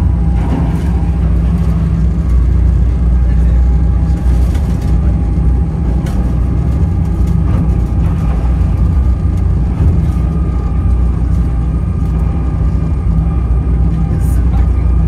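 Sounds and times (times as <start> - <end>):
faint engine whine: 0.0 - 15.0
ferry engine rumbling: 0.0 - 15.0
water rushing along hull: 0.0 - 15.0.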